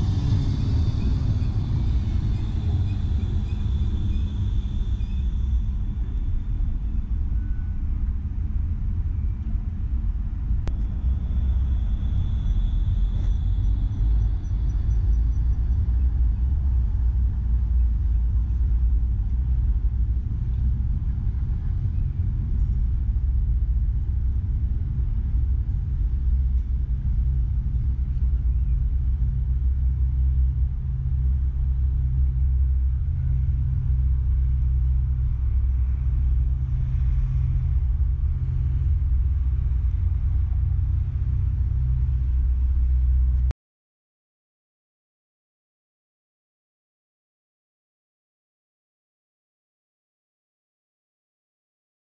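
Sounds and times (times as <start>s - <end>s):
faint high-pitched whine: 0.0s - 43.5s
tram low rumble: 0.0s - 43.5s.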